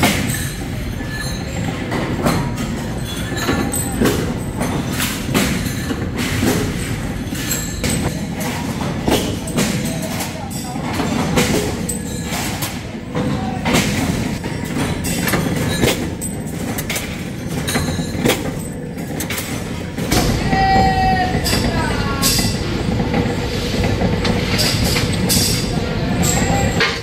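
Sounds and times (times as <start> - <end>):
workshop machinery running: 0.0 - 27.0.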